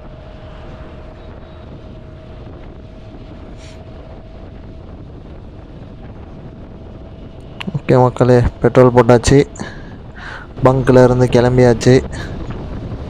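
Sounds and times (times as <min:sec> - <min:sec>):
faint hum: 0:00.0 - 0:13.0
wind rumble on microphone: 0:00.0 - 0:13.0.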